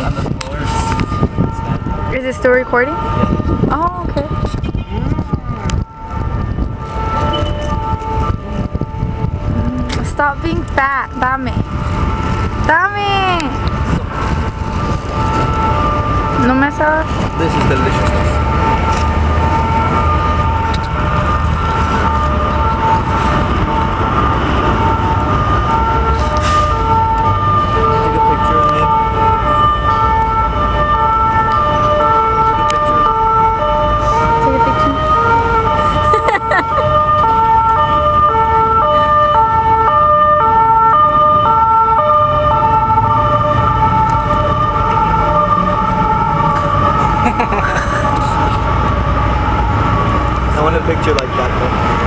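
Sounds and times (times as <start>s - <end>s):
street traffic rumble: 0.0s - 52.0s
two-tone emergency siren: 0.0s - 52.0s.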